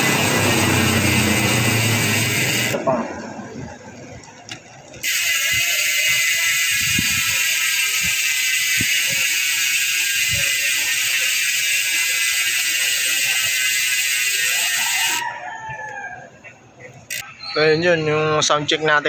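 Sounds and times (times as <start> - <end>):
bicycle hub freewheeling buzz: 0.0 - 15.2, 17.0 - 17.2.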